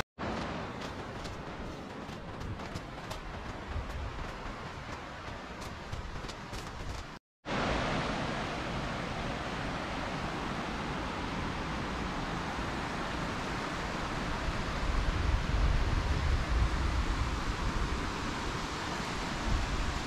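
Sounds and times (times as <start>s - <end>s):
creek rushing: 0.2s - 20.0s
wind buffeting microphone: 0.3s - 7.2s, 10.4s - 20.0s.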